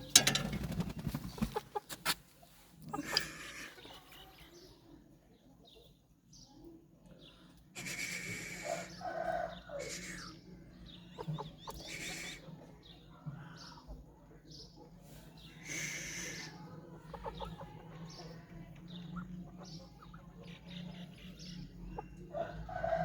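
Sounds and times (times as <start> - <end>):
chickens clucking: 0.0 - 4.8, 7.5 - 23.0.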